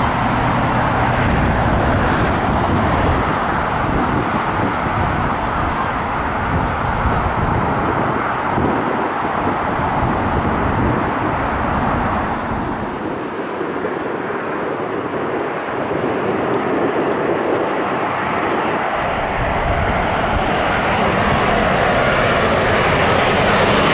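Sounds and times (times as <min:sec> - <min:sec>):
jet engines rushing: 0:00.0 - 0:23.9
wind buffeting microphone: 0:00.0 - 0:23.9.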